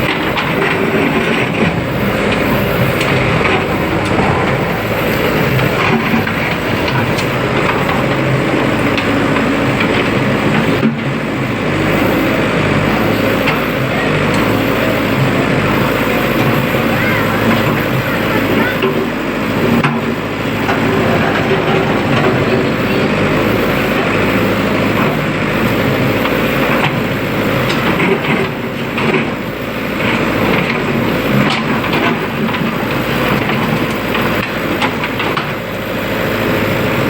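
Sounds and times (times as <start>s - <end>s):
knocks and clanks: 0.0s - 11.2s, 13.0s - 35.7s
diesel engine of heavy machinery: 0.0s - 37.0s.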